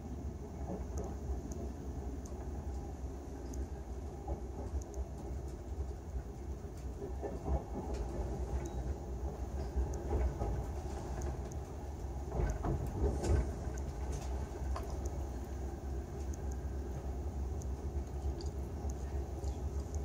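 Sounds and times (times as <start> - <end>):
train rumbling from inside coach: 0.0 - 20.0.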